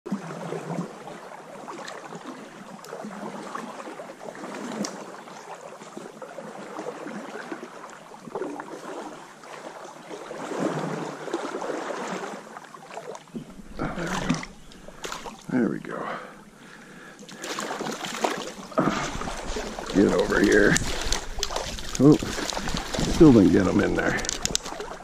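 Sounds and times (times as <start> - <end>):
stream water gurgling: 0.1 - 25.0.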